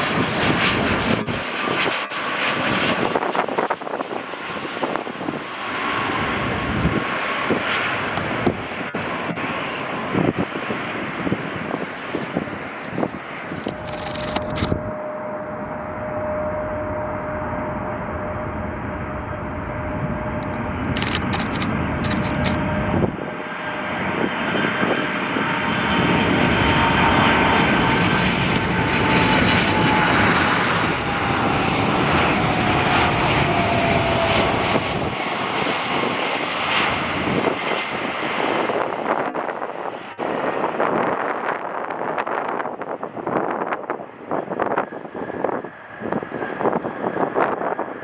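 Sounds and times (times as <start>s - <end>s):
jet airliner passing: 0.0s - 48.0s
wind buffeting microphone: 0.0s - 48.0s.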